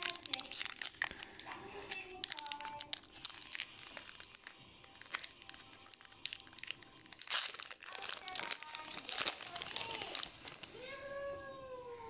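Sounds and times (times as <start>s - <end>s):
card packaging crinkling: 0.0s - 10.9s.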